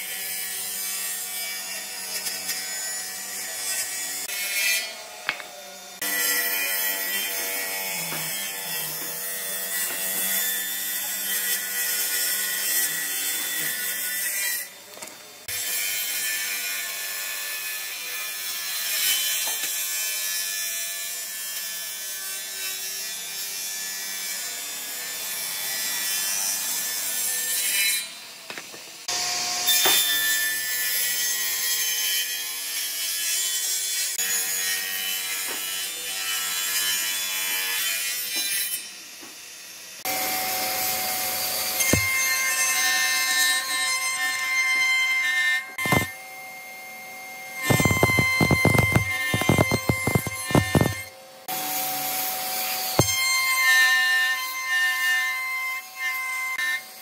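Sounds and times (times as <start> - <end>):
table saw cutting wood: 0.0 - 57.0.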